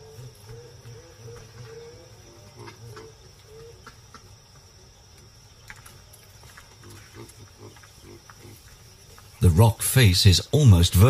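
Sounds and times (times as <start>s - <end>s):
cricket chorus trilling: 0.0s - 11.0s.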